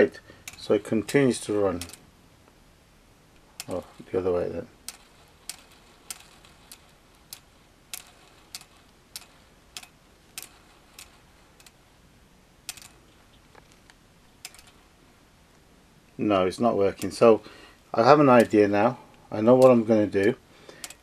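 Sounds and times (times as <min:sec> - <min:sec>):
solenoid engine clicking: 0:00.0 - 0:02.6, 0:03.3 - 0:12.0, 0:12.6 - 0:21.0.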